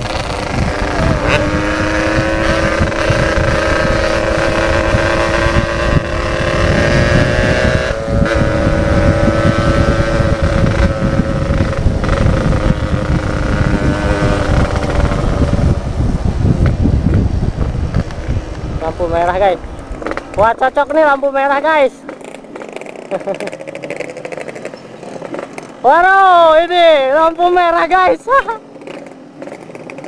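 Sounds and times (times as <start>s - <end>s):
two-stroke motorcycle engine: 0.0s - 18.6s, 19.9s - 26.5s, 28.5s - 30.0s
wind on microphone: 0.0s - 27.7s.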